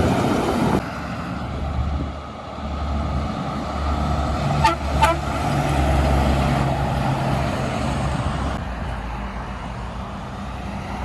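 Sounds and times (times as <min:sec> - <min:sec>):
heavy truck driving past: 0:00.0 - 0:11.0.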